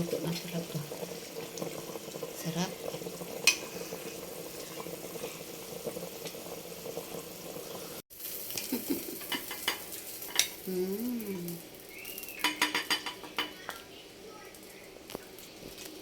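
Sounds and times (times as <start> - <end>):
chicken sizzling in a pot: 0.0 - 16.0.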